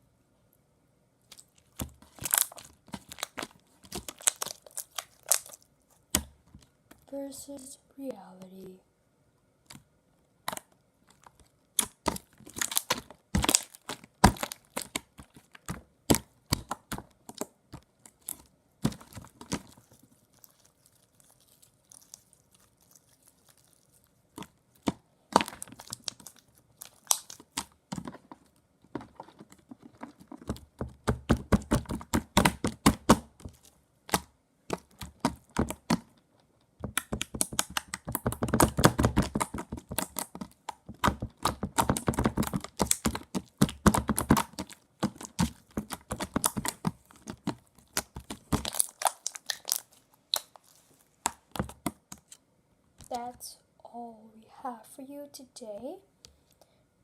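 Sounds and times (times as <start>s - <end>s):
slime squished by hand: 1.3s - 7.0s, 9.6s - 36.2s, 36.8s - 52.4s.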